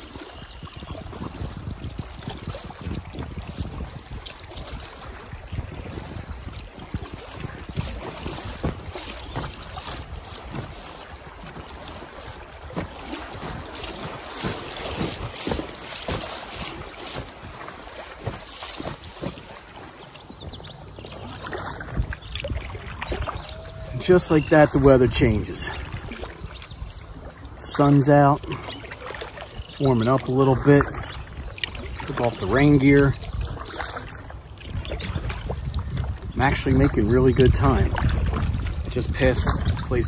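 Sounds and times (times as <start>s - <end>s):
water splashing around kayak: 0.0s - 40.0s
wind buffeting microphone: 0.0s - 40.0s.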